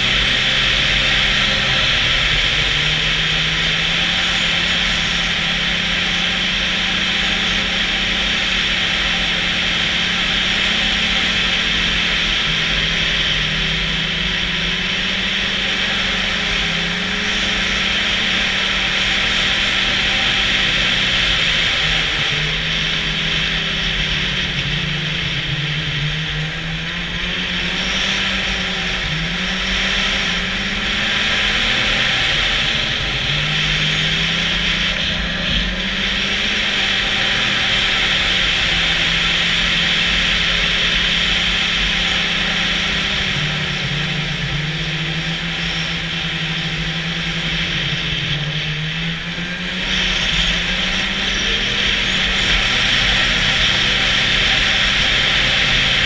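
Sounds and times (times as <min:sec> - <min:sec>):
snowmobile engine: 0:00.0 - 0:56.0.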